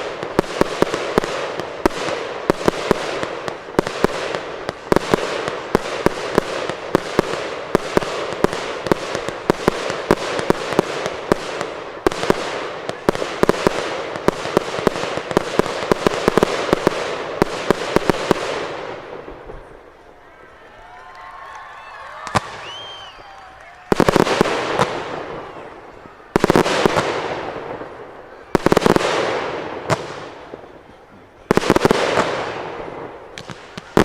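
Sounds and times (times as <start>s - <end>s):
fireworks crackling and popping: 0.0s - 34.0s.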